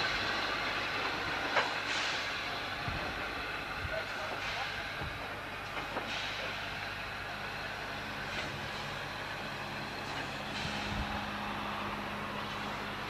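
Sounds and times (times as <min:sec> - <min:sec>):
steam locomotive chuffs: 0:00.0 - 0:13.0.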